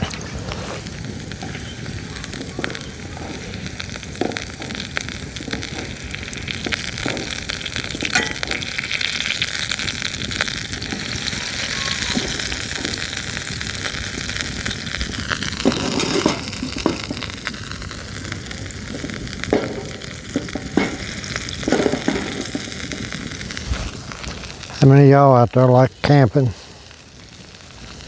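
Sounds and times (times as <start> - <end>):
fat sizzling in a pan: 0.0 - 28.0.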